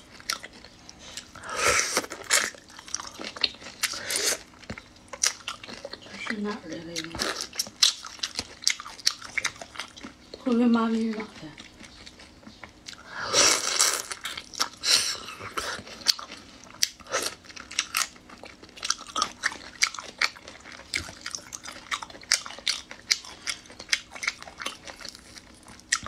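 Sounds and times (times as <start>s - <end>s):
wet chewing clicks and smacks: 0.0s - 1.4s, 2.1s - 6.4s, 7.0s - 13.1s, 14.1s - 26.0s.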